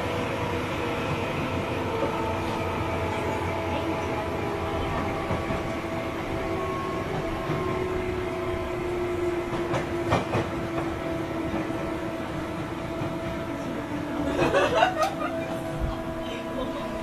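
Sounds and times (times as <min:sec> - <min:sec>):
electric train whine: 0:00.0 - 0:17.0.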